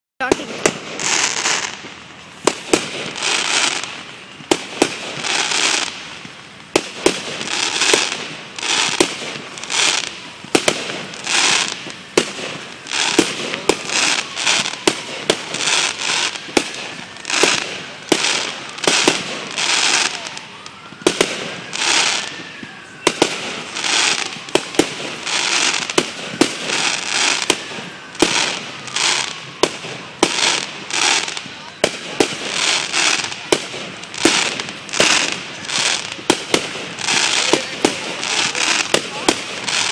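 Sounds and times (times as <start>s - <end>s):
firework bangs: 0.2s - 39.9s
firework whistles: 0.2s - 39.9s
hissing crackle: 0.2s - 39.9s.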